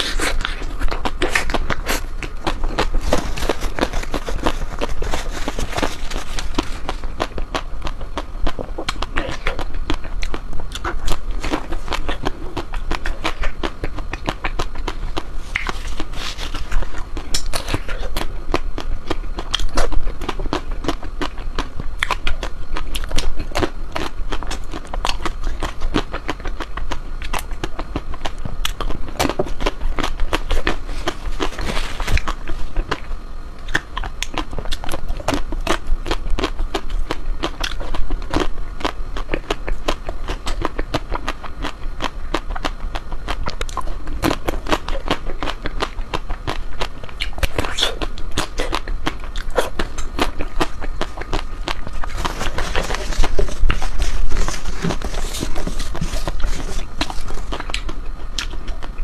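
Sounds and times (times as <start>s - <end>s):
ice cream being chewed: 0.0s - 59.0s.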